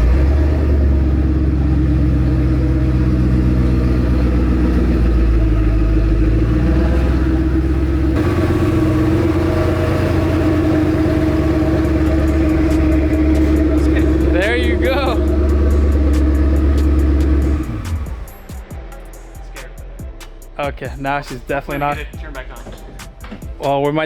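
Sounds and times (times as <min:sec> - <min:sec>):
car engine running steadily: 0:00.0 - 0:22.1.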